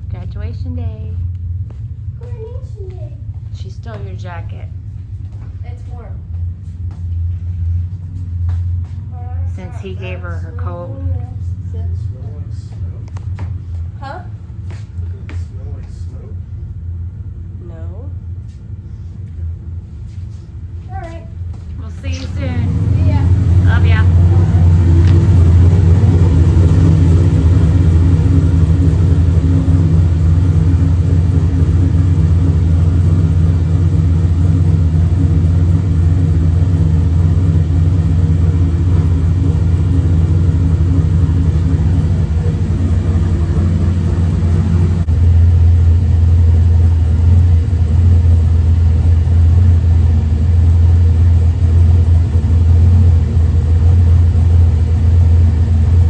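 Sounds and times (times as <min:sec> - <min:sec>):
engine and road drone inside vehicle: 0:00.0 - 0:56.0.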